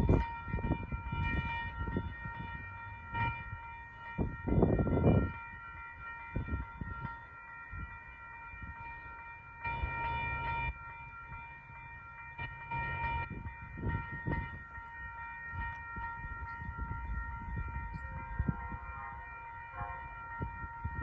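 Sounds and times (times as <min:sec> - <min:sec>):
distant train high-pitched chord: 0:00.0 - 0:21.0.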